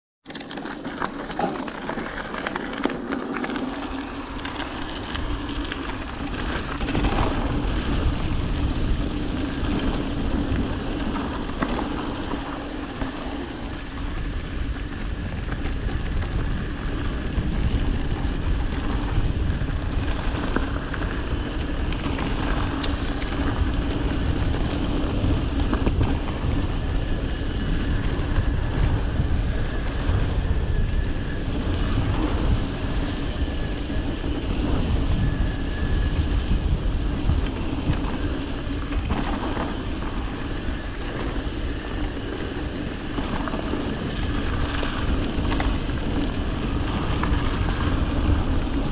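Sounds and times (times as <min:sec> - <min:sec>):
bike rattling over bumps: 0:00.2 - 0:48.9
bike tyres rolling on dirt: 0:00.3 - 0:48.9
wind on microphone: 0:01.0 - 0:48.9
steady hum: 0:01.4 - 0:48.9.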